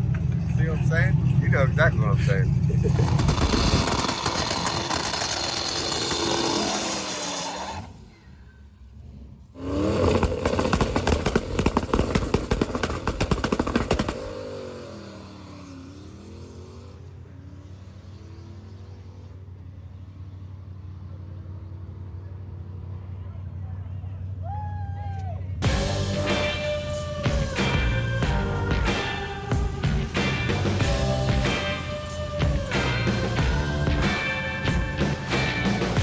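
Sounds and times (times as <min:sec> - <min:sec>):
car engine running: 0:00.0 - 0:19.7, 0:25.6 - 0:36.0.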